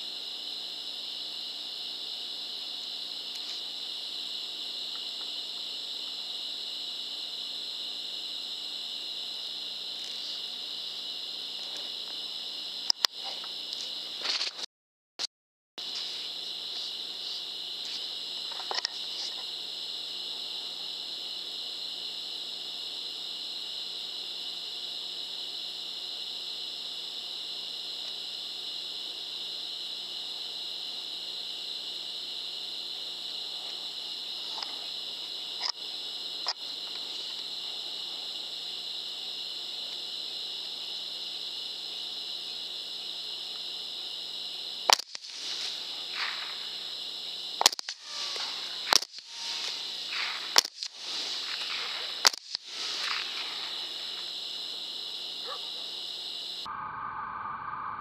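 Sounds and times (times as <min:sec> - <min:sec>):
night insects chorus: 0:00.0 - 0:14.6, 0:15.8 - 0:57.0.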